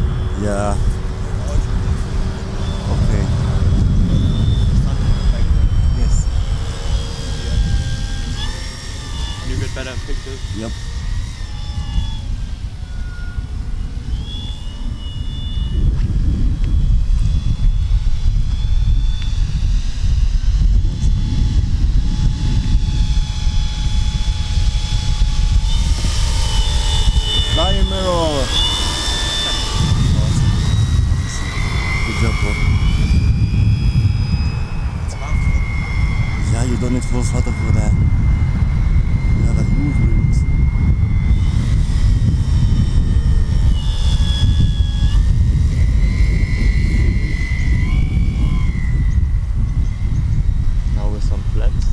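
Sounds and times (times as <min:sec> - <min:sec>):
low rumble: 0:00.0 - 0:51.9
model plane motor whine: 0:00.0 - 0:51.9.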